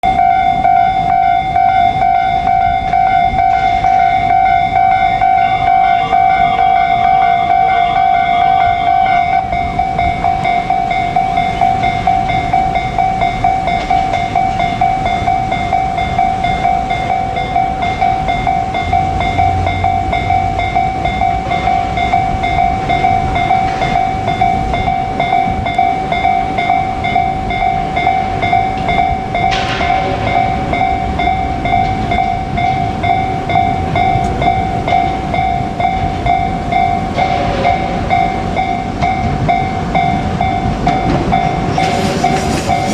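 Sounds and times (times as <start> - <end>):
electric train passing: 0.0 - 42.9
level-crossing alarm dinging: 0.0 - 42.9
rail clatter and rumble: 0.0 - 42.9.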